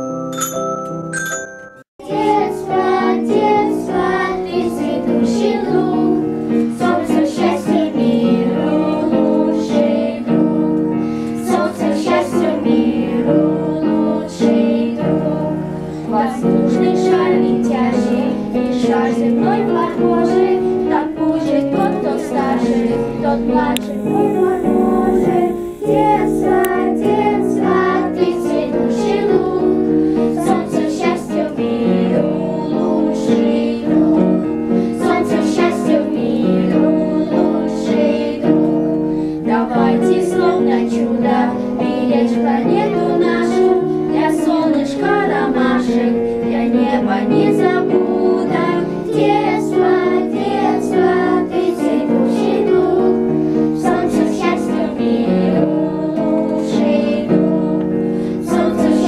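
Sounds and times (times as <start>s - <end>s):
electronic keyboard: 0.0s - 59.0s
children singing: 2.0s - 59.0s.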